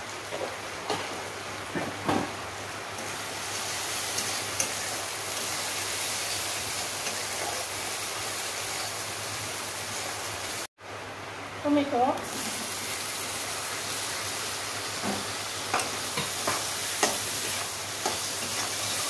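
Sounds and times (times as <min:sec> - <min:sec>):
food sizzling in a pan: 0:00.0 - 0:10.7, 0:11.8 - 0:19.0.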